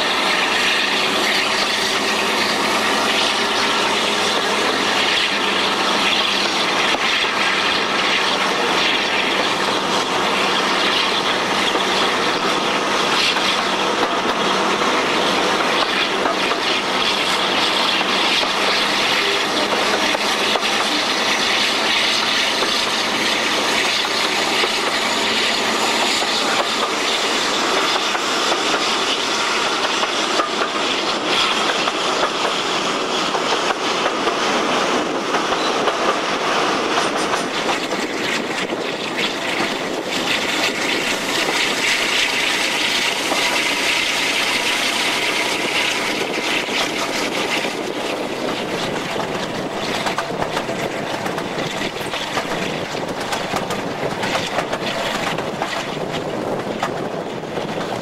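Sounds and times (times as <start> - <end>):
locomotive engine noise: 0.0 - 58.0
wheels clattering over rails: 0.0 - 58.0.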